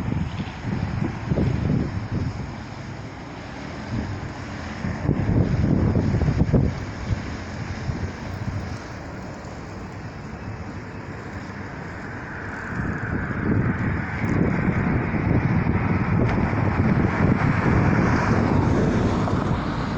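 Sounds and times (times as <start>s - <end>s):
steady rushing noise: 0.0s - 19.9s
wind buffeting microphone: 0.0s - 19.9s.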